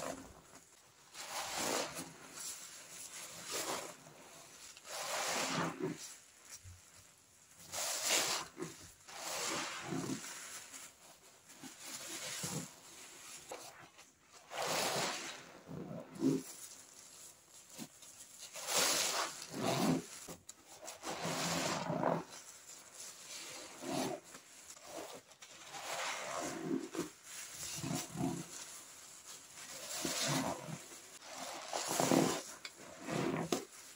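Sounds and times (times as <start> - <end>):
rubbing and scraping of products: 0.0 - 33.9.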